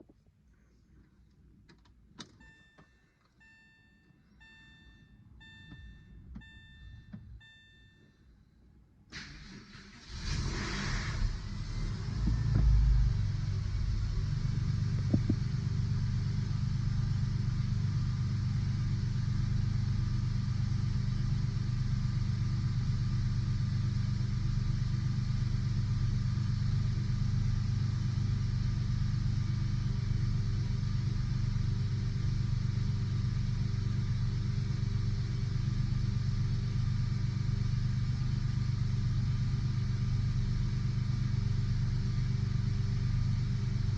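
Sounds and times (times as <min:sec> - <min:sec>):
car engine starting and idling: 0:01.5 - 0:08.1, 0:08.7 - 0:43.9.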